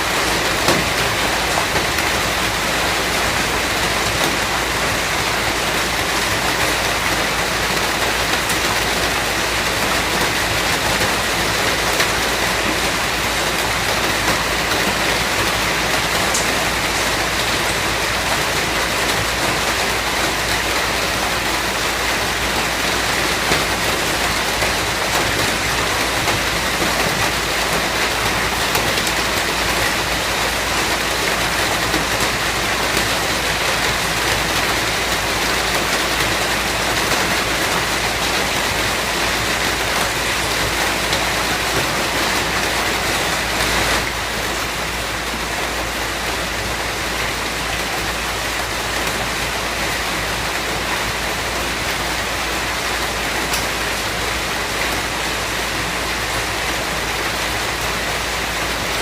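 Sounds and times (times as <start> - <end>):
dense rain falling: 0.0 - 59.0.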